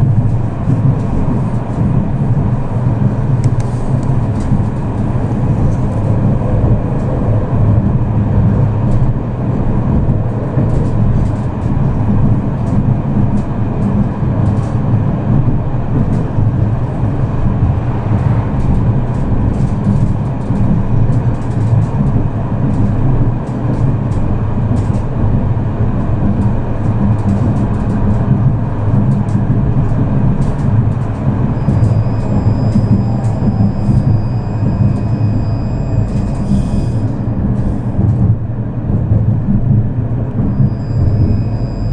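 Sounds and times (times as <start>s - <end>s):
tram wheels rumbling: 0.0s - 41.9s.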